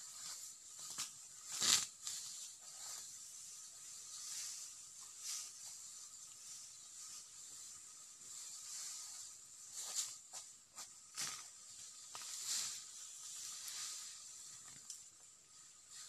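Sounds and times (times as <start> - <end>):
dry grass rustling: 0.0 - 16.0
steady high hiss: 0.0 - 16.0.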